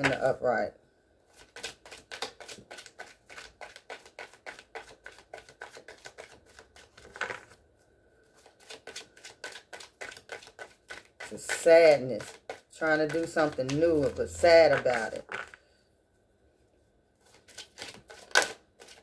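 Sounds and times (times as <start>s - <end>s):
cards being shuffled: 1.3s - 7.6s, 8.4s - 15.6s, 17.2s - 19.0s.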